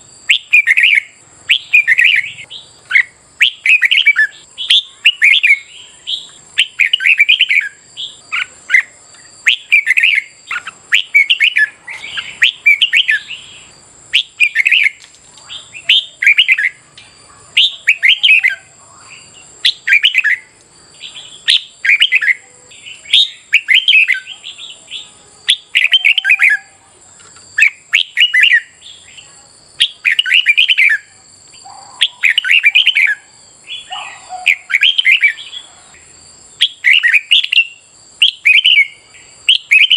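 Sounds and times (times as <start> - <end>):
bulbul singing warbling phrases: 0.0 - 39.9.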